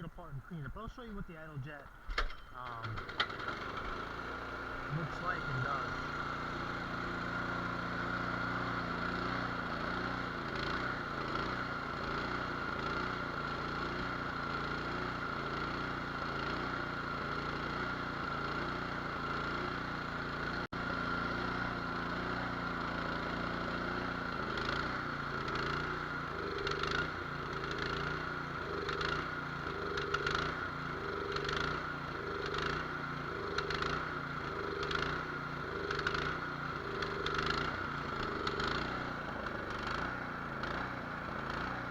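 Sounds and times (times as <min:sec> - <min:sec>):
snowblower engine surging: 0:00.0 - 0:41.9.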